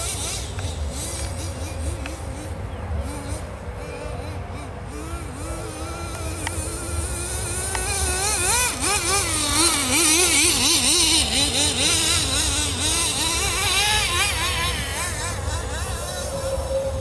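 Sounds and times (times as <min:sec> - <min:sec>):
small nitro engine buzzing: 0:00.0 - 0:17.0.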